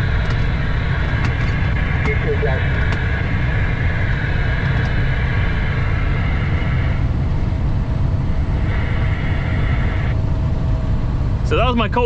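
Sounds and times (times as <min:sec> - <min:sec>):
diesel truck engine drone: 0:00.0 - 0:12.0
road noise: 0:00.0 - 0:12.0.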